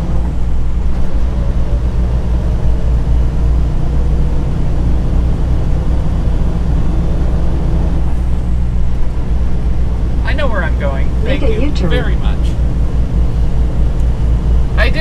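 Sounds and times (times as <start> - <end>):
truck diesel engine rumble: 0.0 - 15.0.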